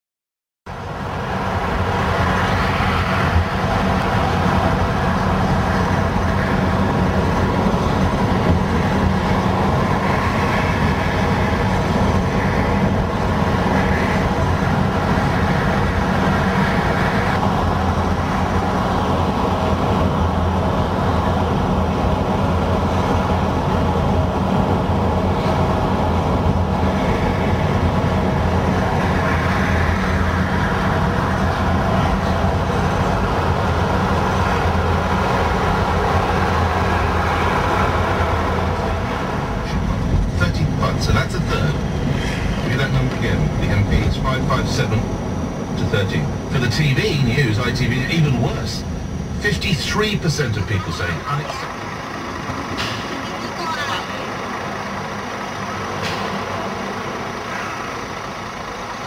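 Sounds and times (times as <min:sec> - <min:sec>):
bus engine and road noise: 0:00.7 - 0:59.0.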